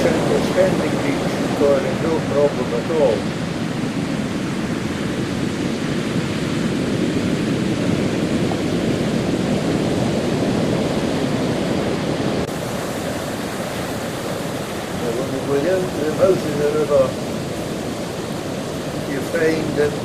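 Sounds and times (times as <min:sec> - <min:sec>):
turbulent river water: 0:00.0 - 0:20.0.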